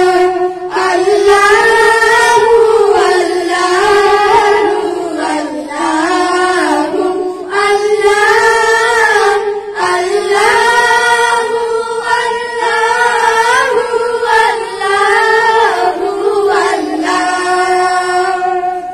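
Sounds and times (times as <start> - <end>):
children singing together: 0.0 - 18.9
girl singing into microphone: 0.0 - 18.9.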